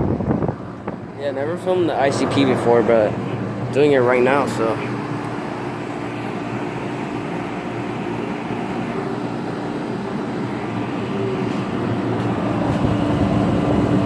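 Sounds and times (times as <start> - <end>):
compressor humming steadily: 0.0 - 14.0
condenser fan rushing air: 0.0 - 14.0.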